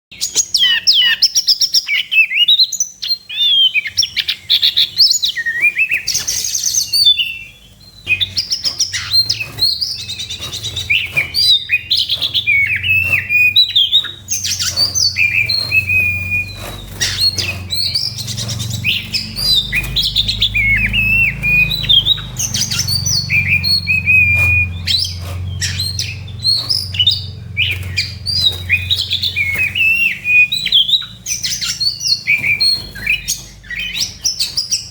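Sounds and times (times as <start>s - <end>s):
bird singing chirps and trills: 0.1s - 34.9s.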